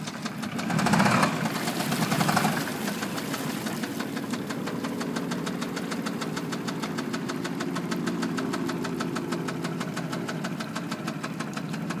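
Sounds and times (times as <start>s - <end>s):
outboard engine idling: 0.0s - 12.0s
rapid regular engine knocking: 0.0s - 12.0s.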